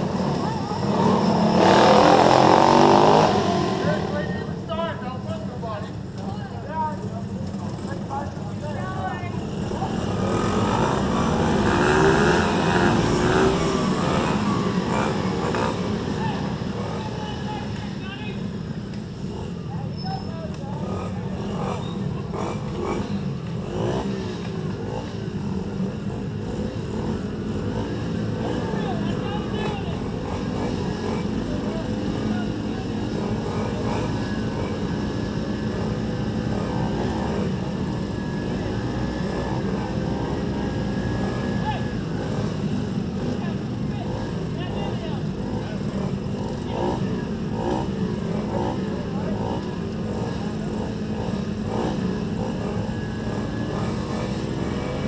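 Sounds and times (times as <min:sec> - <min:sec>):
pit bike engines revving: 0:00.0 - 0:55.0.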